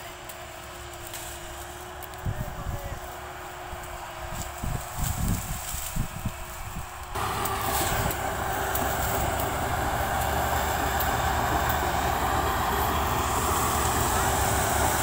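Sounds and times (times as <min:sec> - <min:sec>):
sugarcane harvester running: 0:00.0 - 0:15.0.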